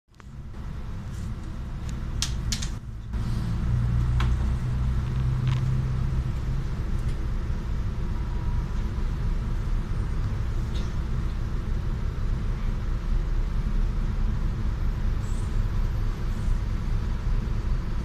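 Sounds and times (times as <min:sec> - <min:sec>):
bus diesel engine idling: 0:00.2 - 0:18.0.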